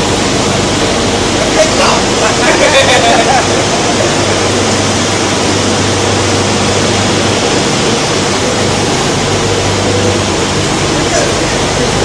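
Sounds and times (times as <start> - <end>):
rushing noise of motors and air: 0.0 - 12.0
steady low hum: 0.0 - 12.0.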